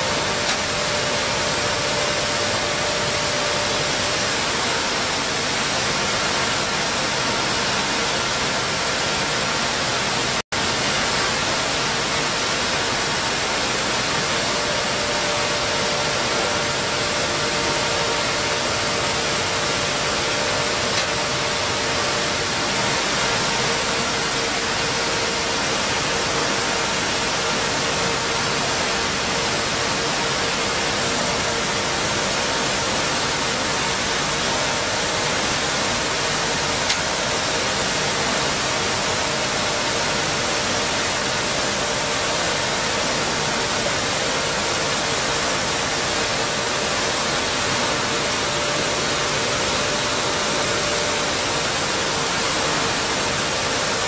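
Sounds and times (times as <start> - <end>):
flour mill machinery running: 0.0 - 54.0.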